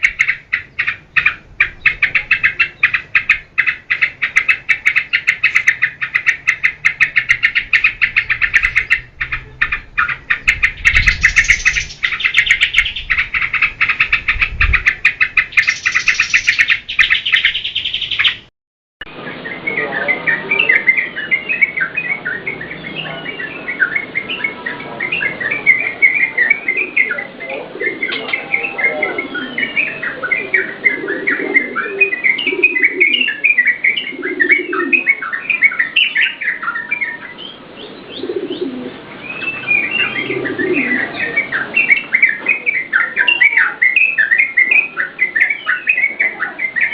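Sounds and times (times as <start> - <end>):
birds chattering and chirping: 0.0 - 18.5, 19.1 - 46.9.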